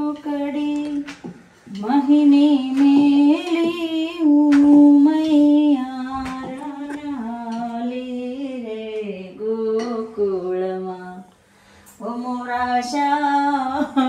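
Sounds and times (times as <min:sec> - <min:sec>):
person singing slow tune: 0:01.7 - 0:14.0.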